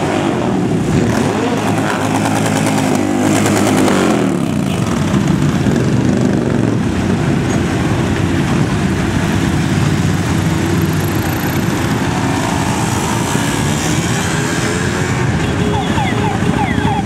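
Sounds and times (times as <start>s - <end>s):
motorcycles riding past: 0.0s - 17.0s.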